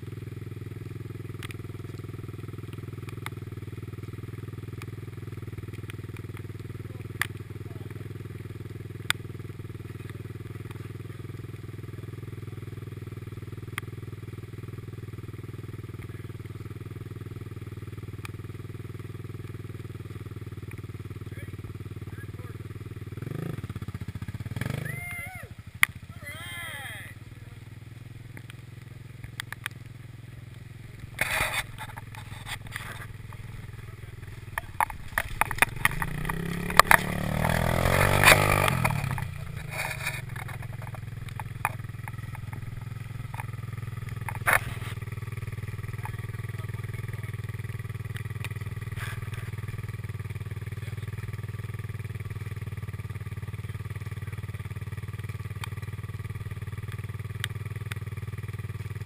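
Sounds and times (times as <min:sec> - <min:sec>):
atv engine revving and idling: 0:00.0 - 0:59.0.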